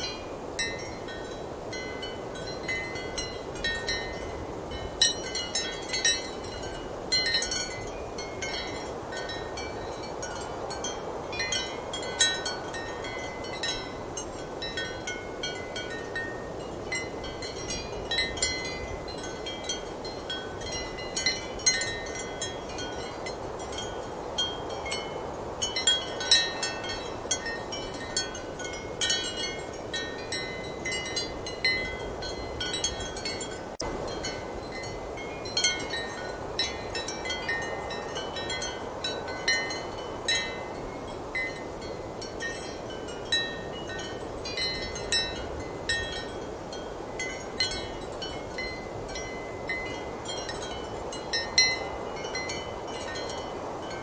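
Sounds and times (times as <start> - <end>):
ceramic wind chimes clinking: 0.0 - 54.0.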